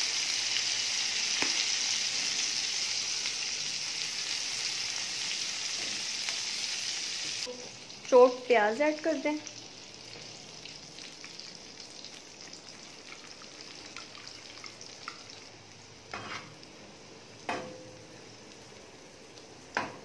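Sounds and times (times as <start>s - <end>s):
onion sizzling in a pan: 0.0s - 20.0s.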